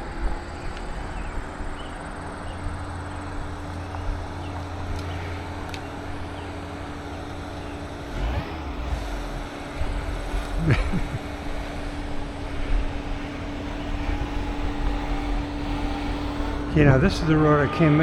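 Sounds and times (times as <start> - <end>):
bicycle rolling noise: 0.0 - 18.0
low rumble: 0.0 - 18.0
wind: 0.0 - 18.0.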